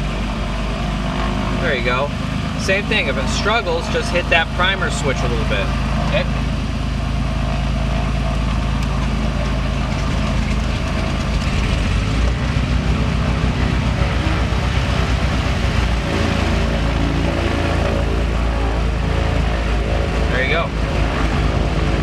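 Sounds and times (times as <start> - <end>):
aircraft engines idling: 0.0 - 22.0.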